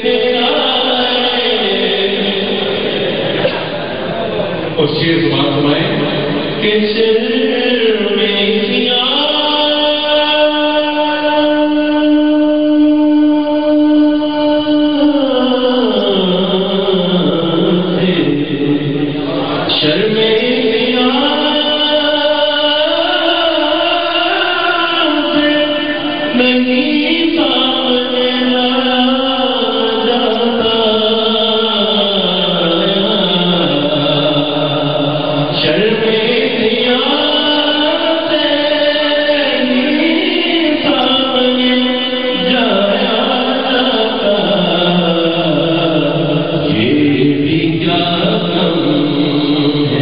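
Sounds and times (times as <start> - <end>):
man singing into a microphone: 0.0 - 50.0.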